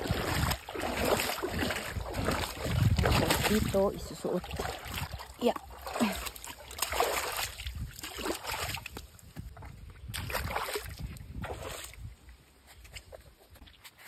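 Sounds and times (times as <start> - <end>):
footsteps splashing through mud: 0.0 - 14.0.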